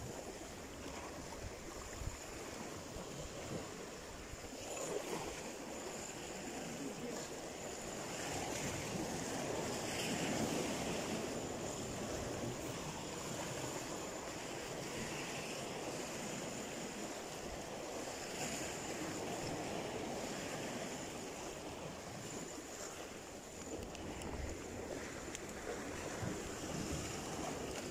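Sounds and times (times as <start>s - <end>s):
sea waves and surf: 0.0s - 27.9s
wind: 0.0s - 27.9s.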